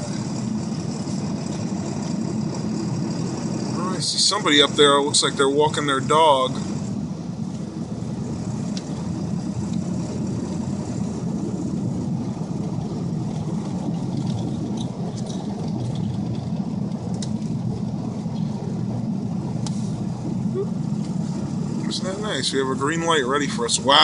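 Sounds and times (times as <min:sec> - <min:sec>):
truck engine and tyre noise: 0:00.0 - 0:24.0.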